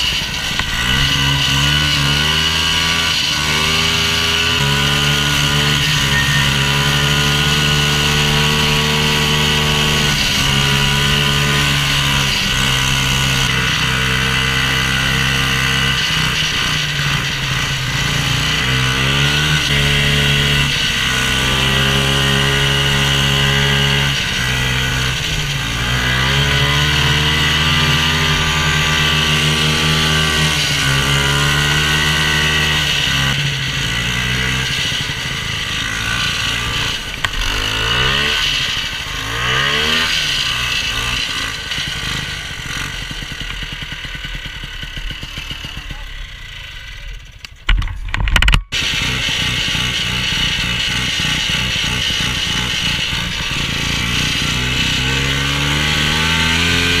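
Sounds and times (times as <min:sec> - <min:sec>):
snowmobile engine revving: 0:00.0 - 0:47.4, 0:48.7 - 0:57.0.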